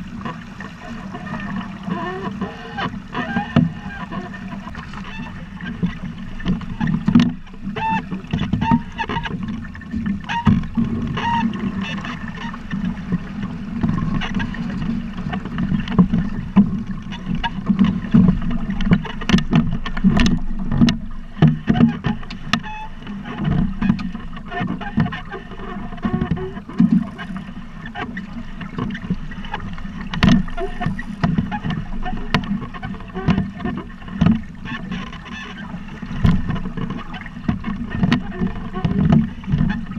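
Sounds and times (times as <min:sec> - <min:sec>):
water slapping against boat hull: 0:00.0 - 0:39.9
knocks on hull: 0:01.0 - 0:39.9.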